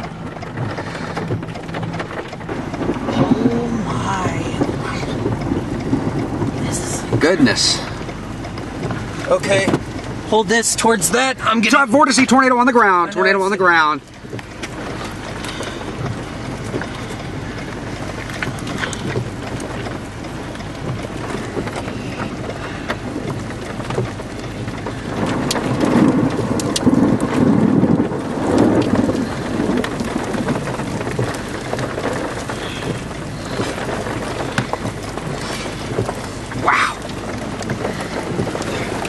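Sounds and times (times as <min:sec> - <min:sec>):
low thunder rumbling: 0:00.0 - 0:39.0
steady rain: 0:00.0 - 0:39.0.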